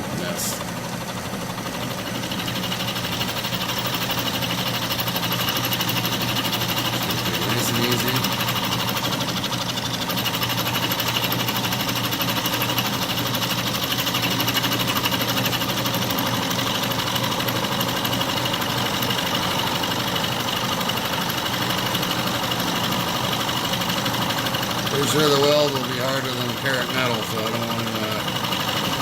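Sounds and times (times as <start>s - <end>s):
metal lathe milling steel: 0.0s - 29.0s.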